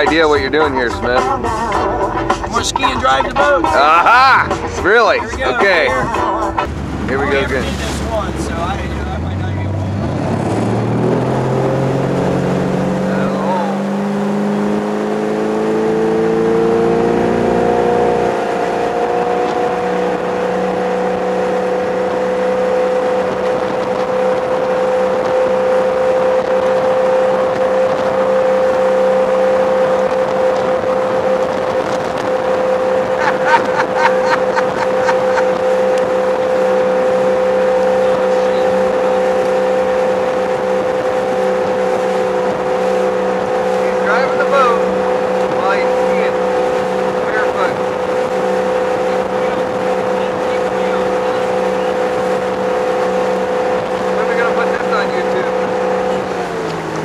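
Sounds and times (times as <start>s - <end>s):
boat engine: 0.0s - 57.0s.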